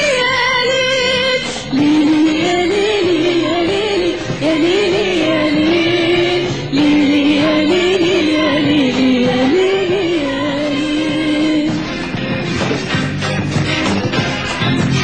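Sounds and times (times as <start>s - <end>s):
band accompaniment: 2.2s - 15.0s.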